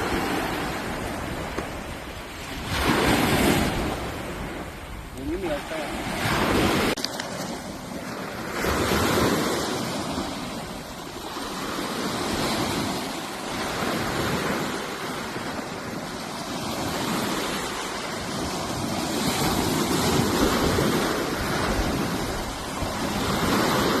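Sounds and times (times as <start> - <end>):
sea waves breaking: 0.0 - 24.0
wind buffeting microphone: 0.0 - 24.0.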